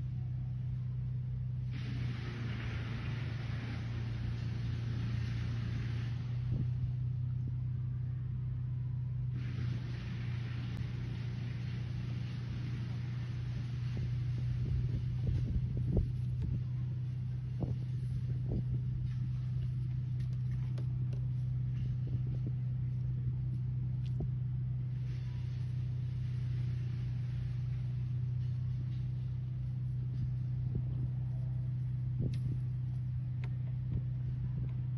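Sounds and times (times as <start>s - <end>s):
motor humming and rumbling: 0.0s - 34.9s.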